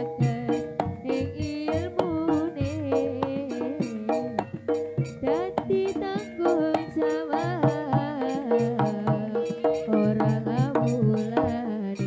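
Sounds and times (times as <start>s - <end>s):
kendang drum strokes: 0.0s - 12.0s
sliding bending melody line: 0.0s - 12.0s.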